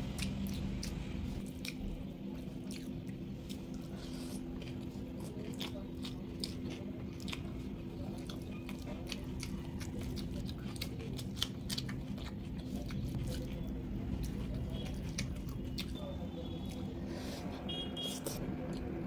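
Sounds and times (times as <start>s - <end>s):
wet chewing: 0.0s - 19.0s.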